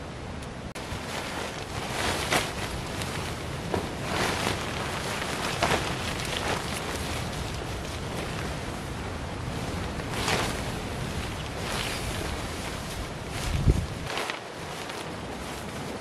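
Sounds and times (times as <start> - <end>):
nylon tent fly rustling: 0.6 - 16.0.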